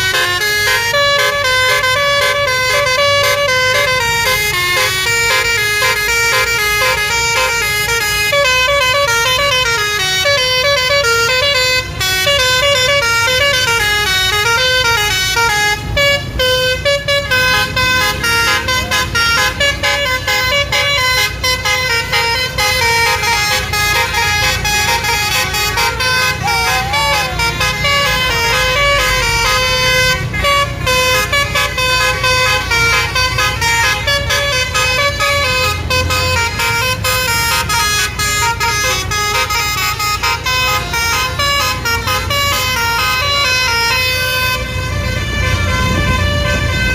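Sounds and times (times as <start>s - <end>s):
bus musical horn tune: 0.0s - 46.9s
low engine rumble: 0.0s - 46.9s.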